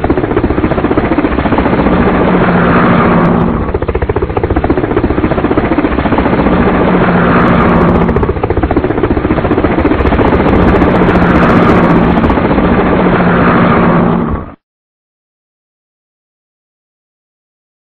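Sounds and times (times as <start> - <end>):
helicopter rotor blades chopping: 0.0 - 14.6.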